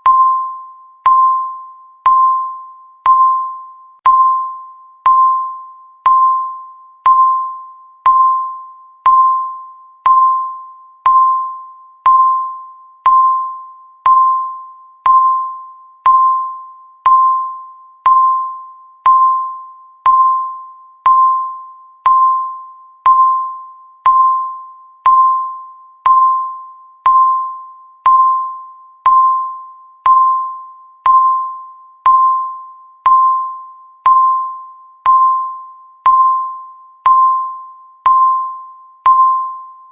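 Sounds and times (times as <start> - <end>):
timer ticking pings: 0.0 - 39.9.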